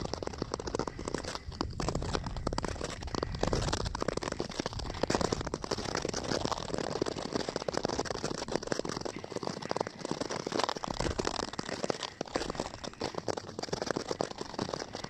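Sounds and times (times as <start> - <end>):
skate blades scraping over ice: 0.0 - 15.0.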